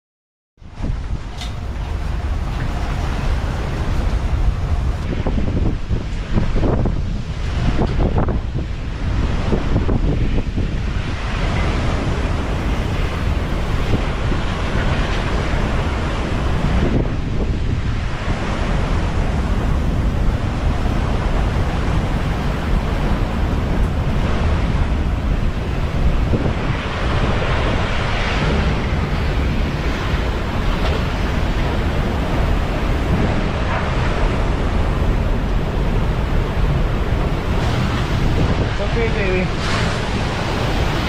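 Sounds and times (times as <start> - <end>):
driving rain: 0.6 - 41.0
storm wind buffeting microphone: 0.6 - 41.0.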